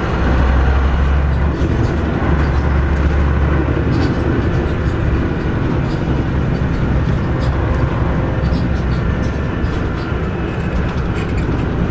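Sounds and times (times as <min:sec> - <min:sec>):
bus engine rumble: 0:00.0 - 0:11.9
road noise: 0:00.0 - 0:11.9.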